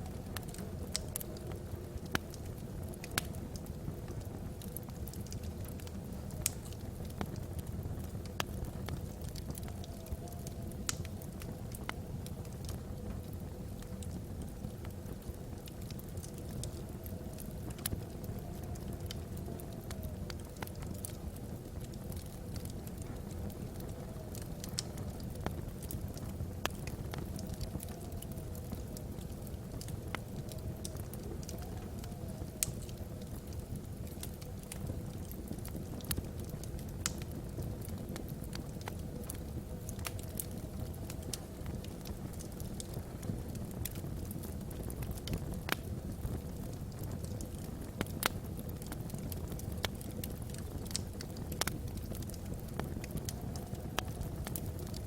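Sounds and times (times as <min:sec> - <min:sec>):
logs crackling: 0:00.0 - 0:55.0
low rumble of flames: 0:00.0 - 0:55.0.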